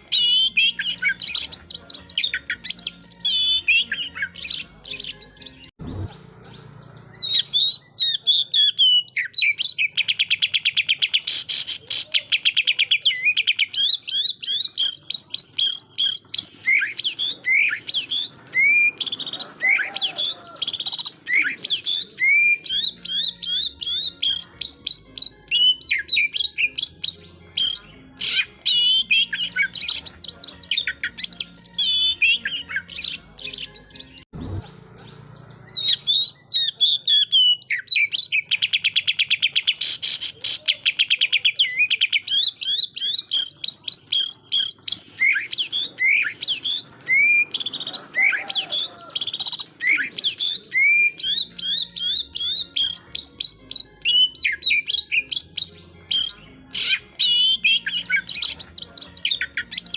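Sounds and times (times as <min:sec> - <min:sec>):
bird singing whistles and chirps: 0:00.0 - 0:59.9
rapid bird trill: 0:00.0 - 0:59.9.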